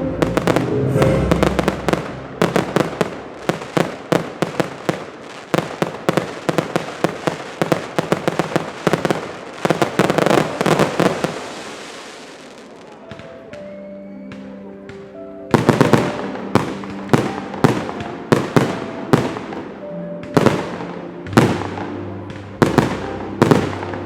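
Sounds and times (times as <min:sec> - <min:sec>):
music: 0:00.0 - 0:11.9, 0:12.8 - 0:24.0
fireworks bangs and crackles: 0:00.2 - 0:13.6, 0:14.3 - 0:24.0.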